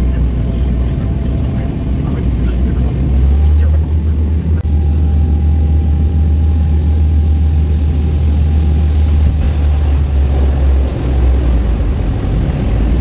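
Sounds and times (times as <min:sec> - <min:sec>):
airplane cabin engine drone: 0:00.0 - 0:13.0.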